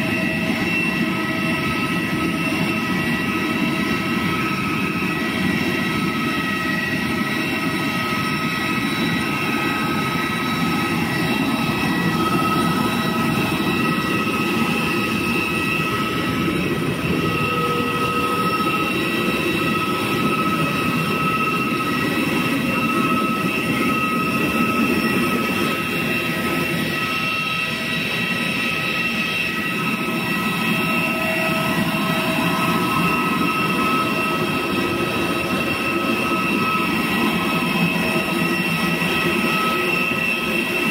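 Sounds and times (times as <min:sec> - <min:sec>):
aircraft turbine rumble and whine: 0:00.0 - 0:40.9.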